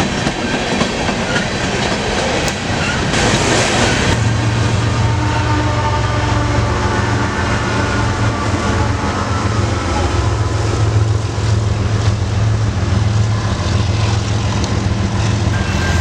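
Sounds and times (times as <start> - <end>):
diesel locomotive droning: 0.8 - 16.0.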